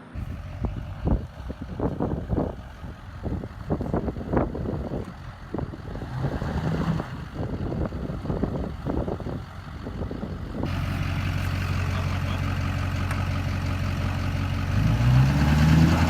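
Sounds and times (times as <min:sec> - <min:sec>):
diesel engine idling and revving: 0:00.0 - 0:16.0.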